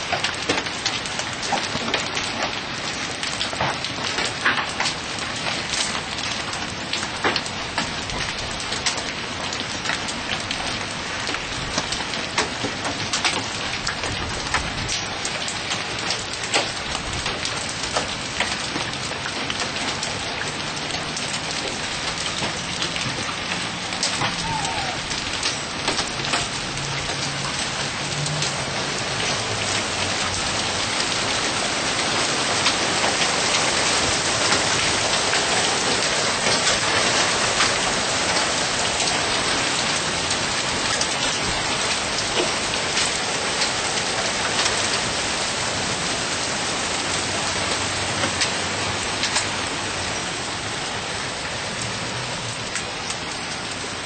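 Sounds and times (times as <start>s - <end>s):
hailstones clicking: 0.0s - 45.8s
heavy rain pelting down: 0.0s - 54.0s.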